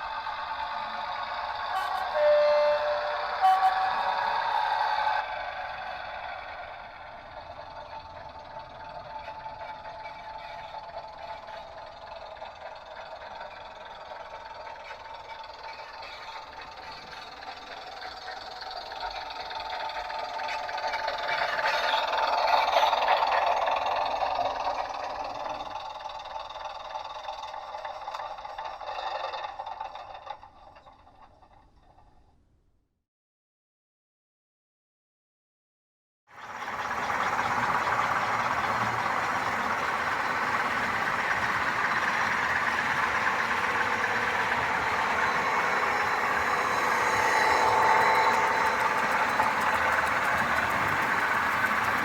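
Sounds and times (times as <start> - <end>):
diesel engine sound from small speaker: 0.0 - 31.2, 36.3 - 52.0.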